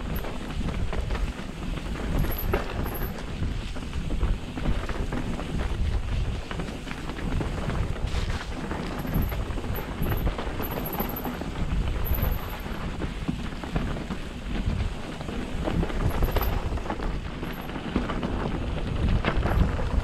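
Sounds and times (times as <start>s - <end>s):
bike rattling: 0.0s - 20.0s
tyres rumbling on dirt trail: 0.0s - 20.0s
wind buffeting microphone: 0.0s - 20.0s.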